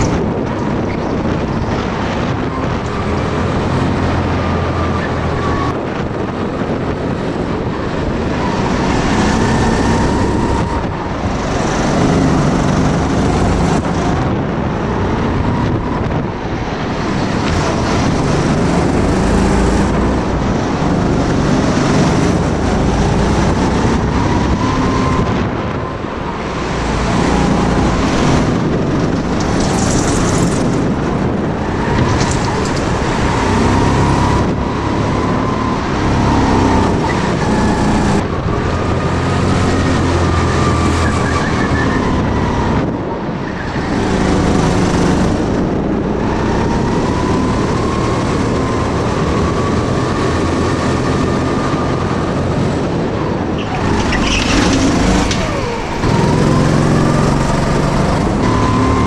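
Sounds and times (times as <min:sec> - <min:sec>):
go-kart motor running at speed: 0:00.0 - 0:59.0.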